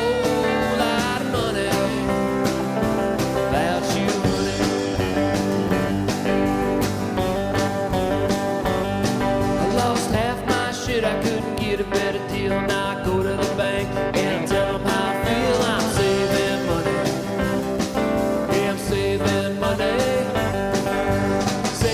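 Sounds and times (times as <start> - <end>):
country song with guitar and singing: 0.0 - 21.9.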